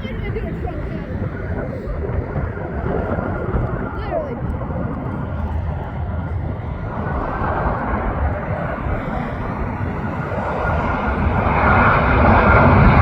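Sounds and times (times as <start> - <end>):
jet airliner approaching: 0.0 - 13.0
steady low rumble: 0.0 - 13.0.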